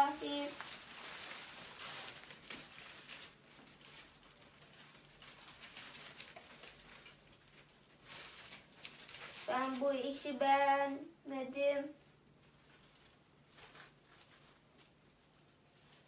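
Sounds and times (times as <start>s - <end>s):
faint rustling: 0.0s - 10.4s, 11.9s - 16.0s
low steady hum: 0.0s - 16.0s.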